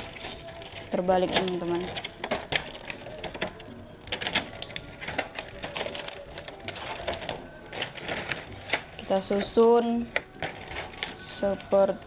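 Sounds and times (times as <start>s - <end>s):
plastic containers clicking: 0.0s - 12.0s.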